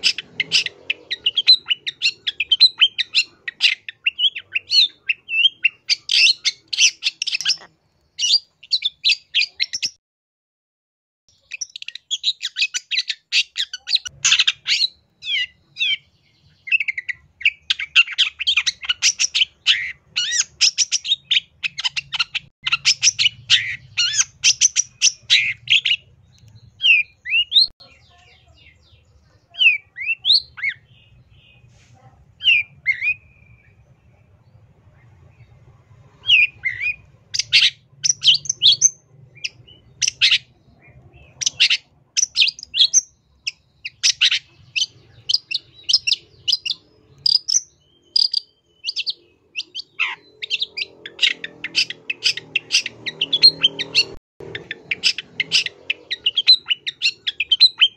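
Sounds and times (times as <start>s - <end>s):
bird chattering song: 0.0s - 10.0s, 11.3s - 57.9s.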